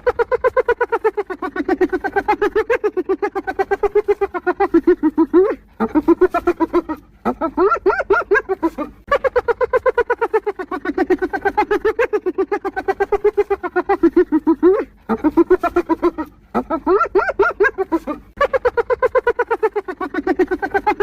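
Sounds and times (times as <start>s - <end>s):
hyena giggling: 0.0s - 21.0s.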